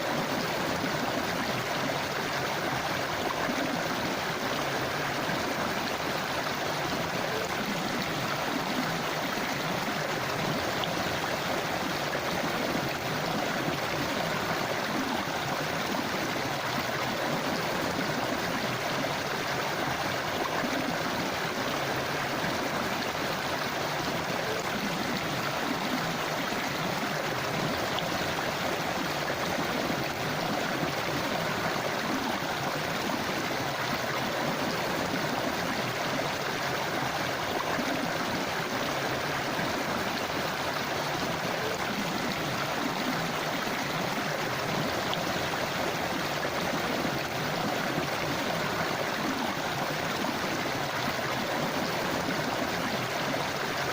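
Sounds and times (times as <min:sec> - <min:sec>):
river flowing over rocks: 0:00.0 - 0:53.9.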